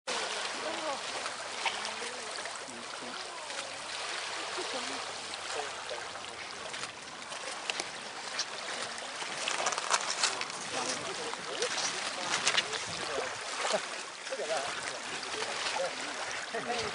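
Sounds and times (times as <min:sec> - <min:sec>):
faint voices talking: 0:00.1 - 0:16.9
small water splashes: 0:00.1 - 0:16.9
water lapping: 0:00.1 - 0:16.9.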